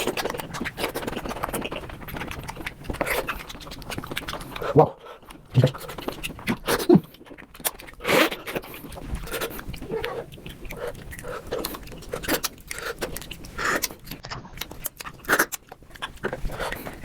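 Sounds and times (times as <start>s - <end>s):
sped-up chewing and smacking: 0.0s - 17.0s.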